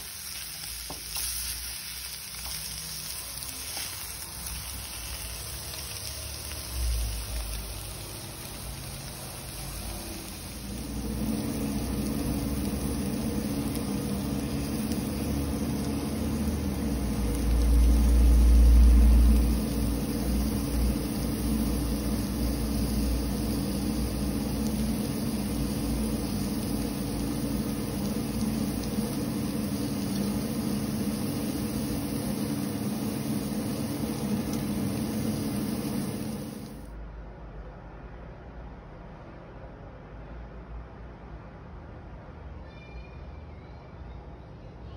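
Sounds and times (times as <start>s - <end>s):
mechanical hum with hiss: 0.0s - 44.9s.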